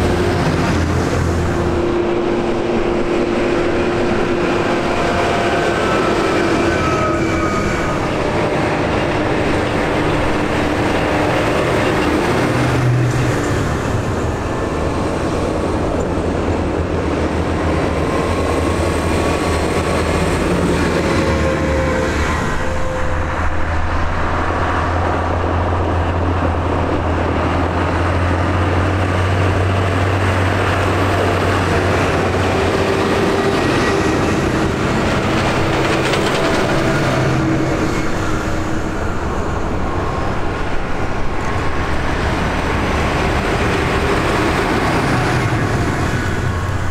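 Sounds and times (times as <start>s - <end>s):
tractors driving past: 0.0s - 46.9s.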